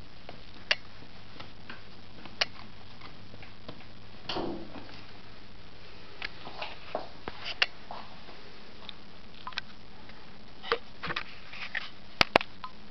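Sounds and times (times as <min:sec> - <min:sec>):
steady low hiss: 0:00.0 - 0:12.9.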